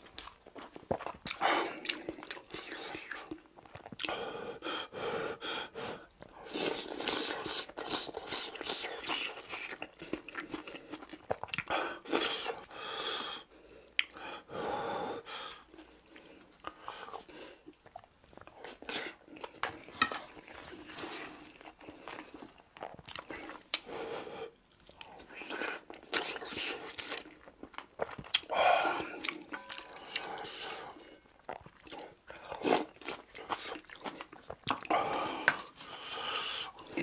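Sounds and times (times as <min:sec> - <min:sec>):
close chewing of food: 0:00.0 - 0:14.6, 0:15.2 - 0:37.0.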